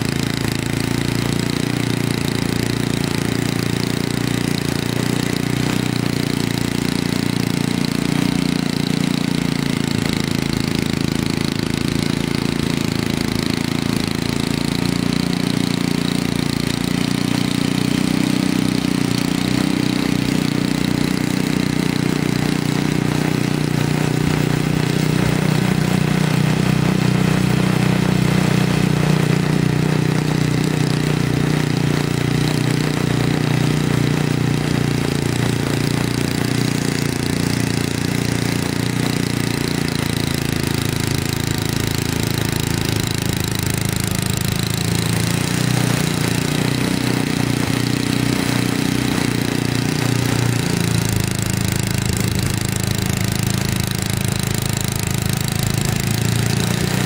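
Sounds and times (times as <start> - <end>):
snowblower engine running: 0.0 - 57.0.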